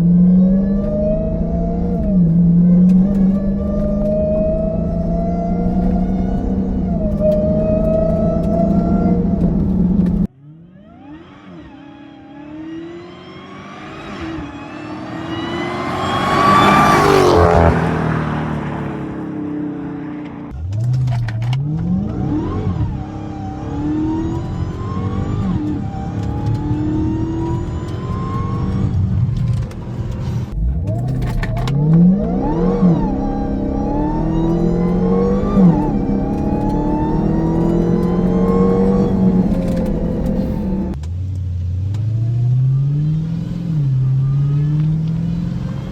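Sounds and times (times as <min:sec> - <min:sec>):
car engine accelerating past: 0:00.0 - 0:20.6, 0:21.6 - 0:41.0, 0:41.9 - 0:45.9
supercharger whine: 0:00.0 - 0:45.9.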